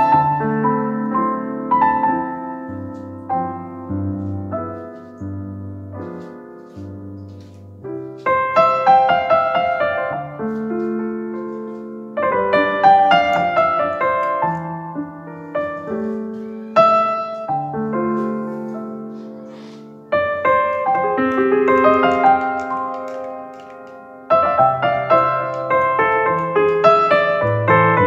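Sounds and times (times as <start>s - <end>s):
gentle piano music: 0.0s - 28.0s.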